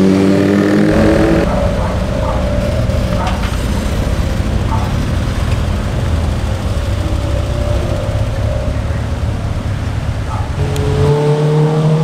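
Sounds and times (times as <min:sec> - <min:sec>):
small car engine rumbling: 0:00.0 - 0:12.0.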